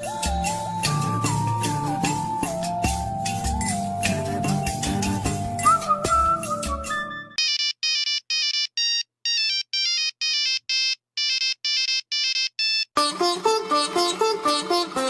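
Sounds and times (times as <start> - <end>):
ringtone tune with bass line: 0.0 - 12.9.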